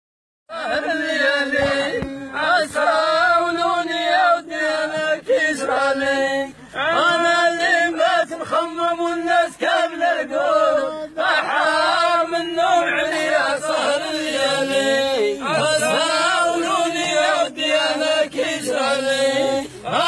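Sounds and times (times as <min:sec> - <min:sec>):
man singing chant-like notes: 0:00.5 - 0:20.0.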